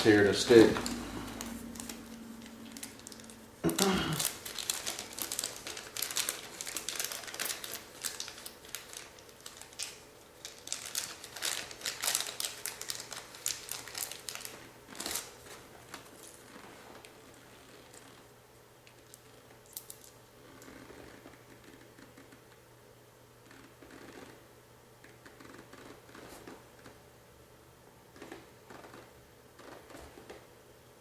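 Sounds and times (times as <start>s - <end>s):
crinkling and rustling: 0.0s - 22.5s, 28.2s - 30.5s.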